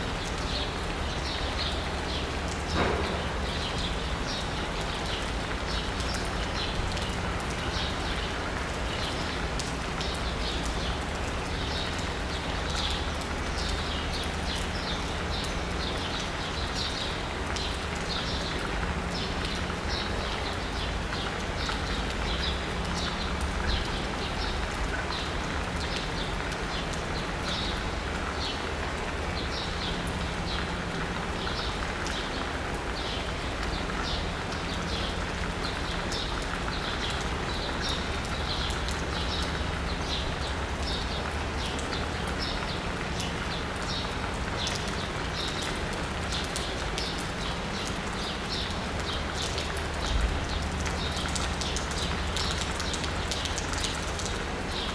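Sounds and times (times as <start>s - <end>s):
rain pattering on asphalt: 0.0s - 54.9s.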